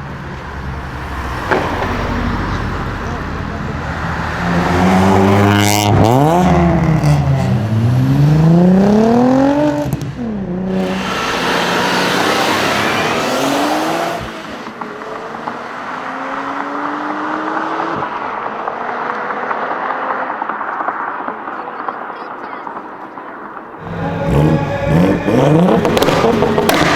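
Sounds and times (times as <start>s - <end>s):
car engine accelerating: 0.0s - 21.5s, 23.8s - 26.9s.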